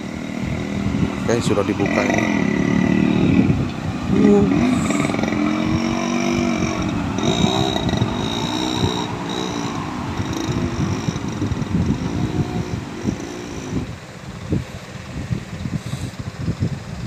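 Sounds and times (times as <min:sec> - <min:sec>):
truck engine passing: 0:00.0 - 0:14.1
motorcycles passing: 0:00.0 - 0:17.0.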